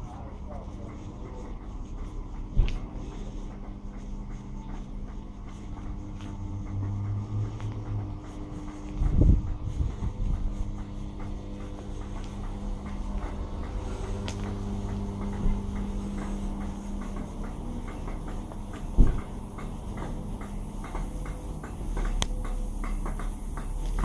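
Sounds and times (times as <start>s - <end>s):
train equipment humming: 0.0s - 24.0s
faint regular clicks: 0.4s - 24.0s.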